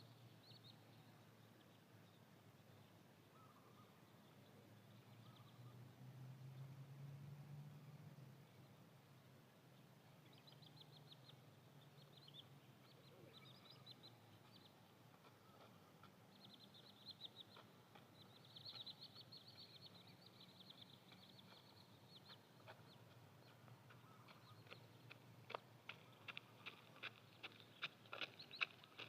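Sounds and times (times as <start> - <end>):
small birds chirping: 0.0 - 6.8, 7.8 - 29.0
faint low hum: 0.0 - 29.0.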